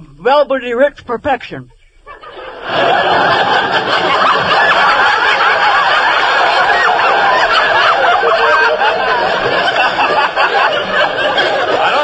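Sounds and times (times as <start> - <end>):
audience laughing: 2.1 - 12.0.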